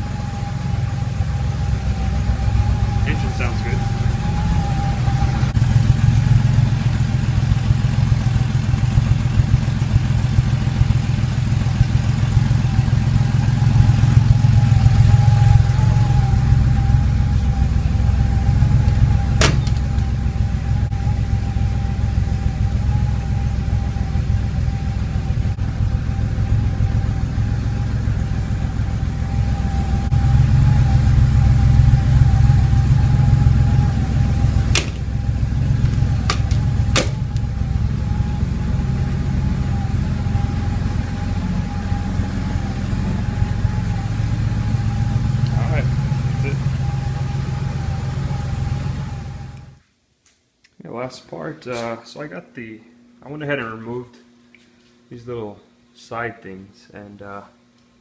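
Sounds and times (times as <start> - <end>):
car engine idling: 0.0 - 49.8
thin steady whine: 0.0 - 49.9, 50.8 - 58.0.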